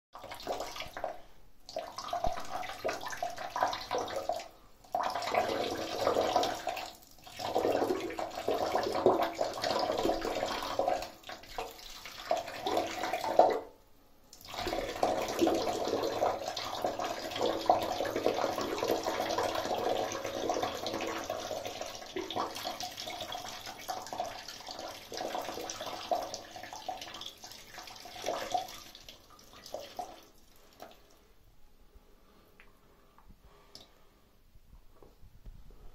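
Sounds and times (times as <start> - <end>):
urine splashing into toilet water: 0.2 - 13.7, 14.3 - 31.2.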